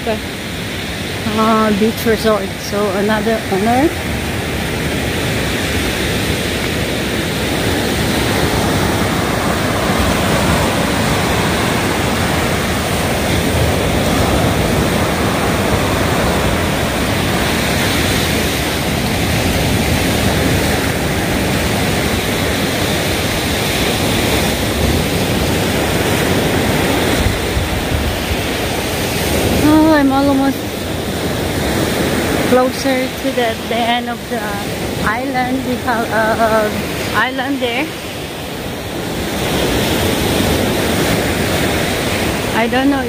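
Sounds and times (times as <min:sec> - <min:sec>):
waves breaking on shore: 0:00.0 - 0:43.0.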